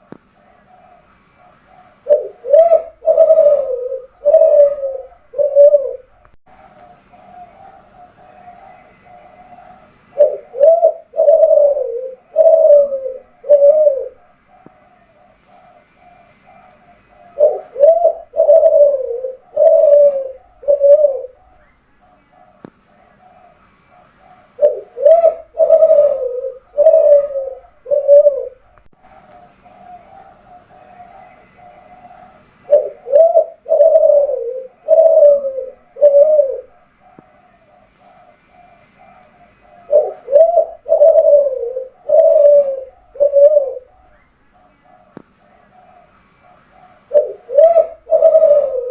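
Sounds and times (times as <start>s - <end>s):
dove cooing: 0.0s - 48.9s
faint dove cooing: 0.0s - 48.9s.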